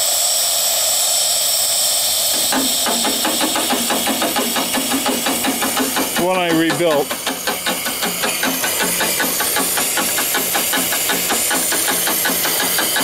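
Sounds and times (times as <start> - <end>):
hiss of exhaust steam: 0.0 - 13.0
steam pump knocking: 2.3 - 13.0.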